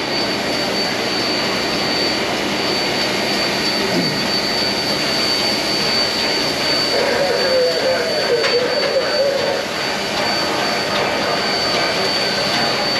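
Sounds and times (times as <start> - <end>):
steam hissing: 0.0 - 12.9
thin high whistle-like tone: 0.0 - 12.9.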